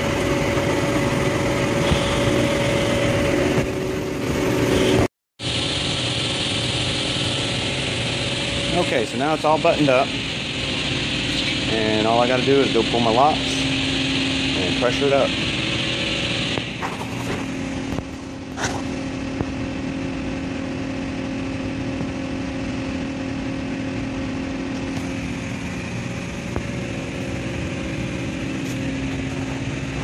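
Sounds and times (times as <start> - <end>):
industrial machinery humming: 0.0 - 30.0.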